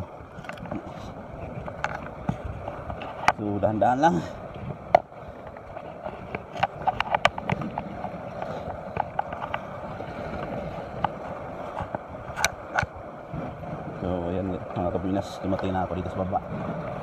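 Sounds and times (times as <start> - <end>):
sea waves: 0.0 - 17.0.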